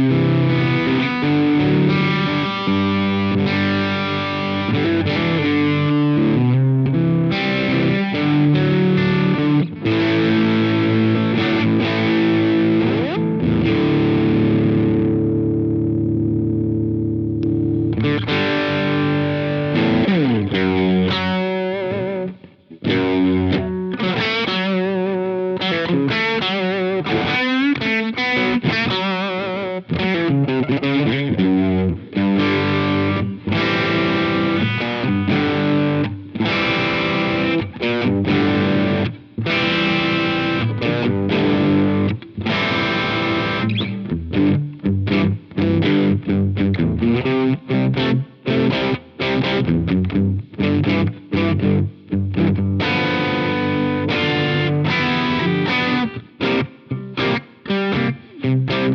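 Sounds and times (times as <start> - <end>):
overdriven electric guitar: 0.0 - 58.9.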